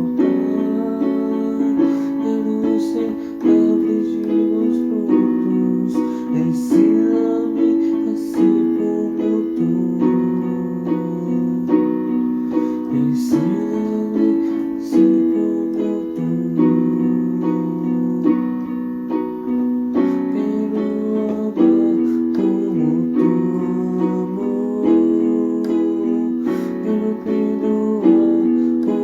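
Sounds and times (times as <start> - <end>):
keyboard instrumental music: 0.0 - 29.0.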